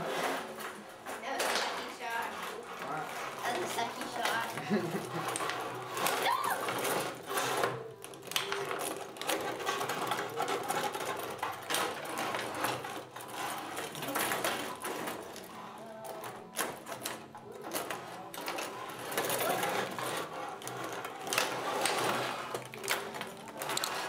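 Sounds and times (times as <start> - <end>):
metal rods sliding in table: 0.0 - 7.9, 8.6 - 24.0
plastic players clacking: 0.4 - 24.0.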